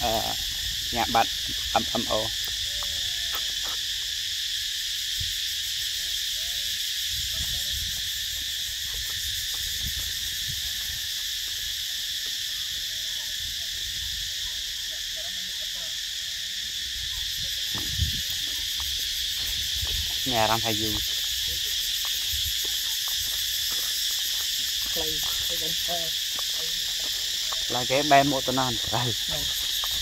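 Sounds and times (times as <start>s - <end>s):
insect chorus droning: 0.0s - 30.0s.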